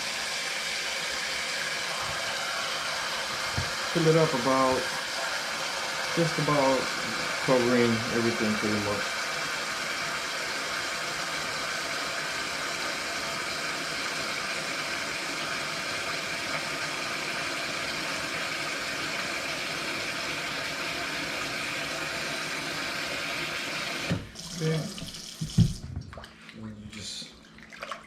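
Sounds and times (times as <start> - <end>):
tap water pouring into pot: 0.0 - 26.3.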